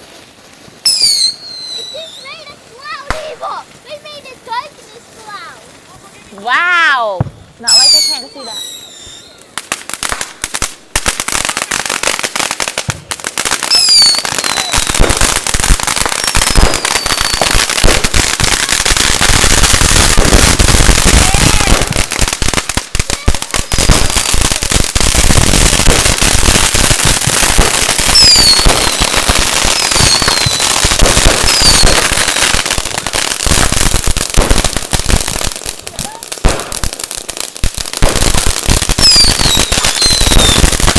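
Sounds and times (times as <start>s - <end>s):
firecrackers crackling: 0.0s - 40.9s
falling firework whistles: 0.8s - 5.6s, 7.2s - 40.9s.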